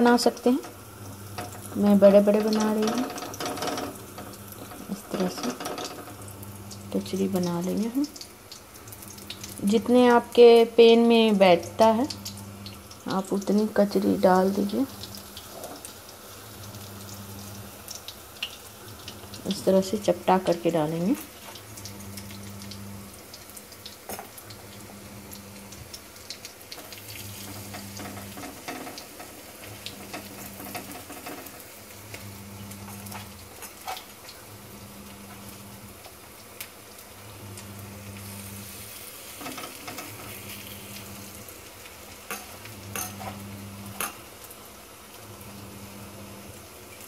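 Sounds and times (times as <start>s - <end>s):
fritters sizzling in oil: 0.0s - 47.0s.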